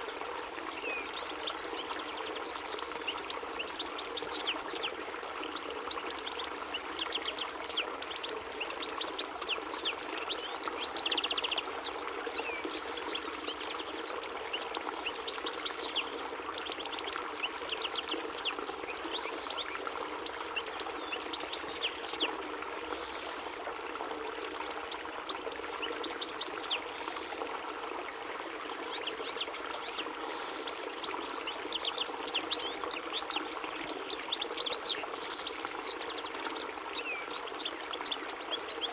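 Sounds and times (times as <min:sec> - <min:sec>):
goldfinch twittering song: 0:00.5 - 0:04.9, 0:05.9 - 0:22.4, 0:25.4 - 0:27.3, 0:28.8 - 0:38.9.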